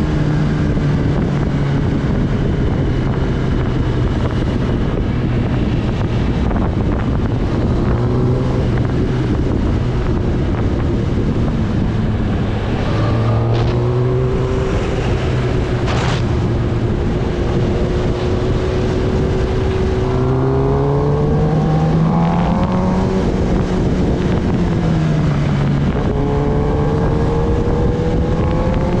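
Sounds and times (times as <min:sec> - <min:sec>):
motorcycle engine revving: 0:00.0 - 0:29.0
wind on microphone: 0:00.0 - 0:29.0.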